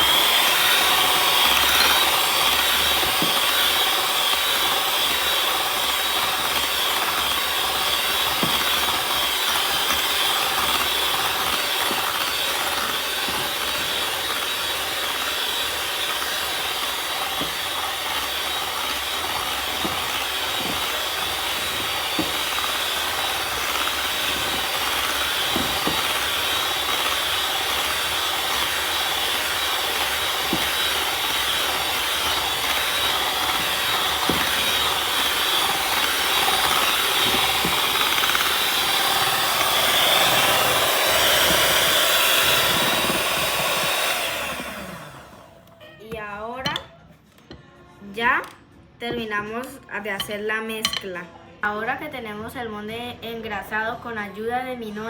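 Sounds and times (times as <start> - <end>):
electric mixer beating batter: 0.0 - 45.8.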